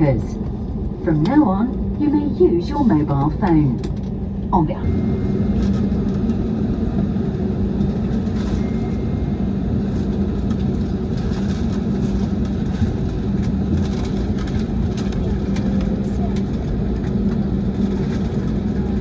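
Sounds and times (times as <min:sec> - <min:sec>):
vehicle interior rumble: 0:00.0 - 0:19.0.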